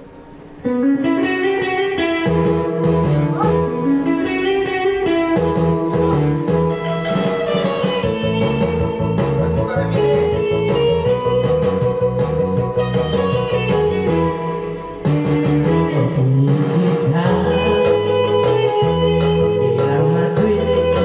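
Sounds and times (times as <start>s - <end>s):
guitar melody: 0.0s - 21.0s
bass line: 0.6s - 21.0s.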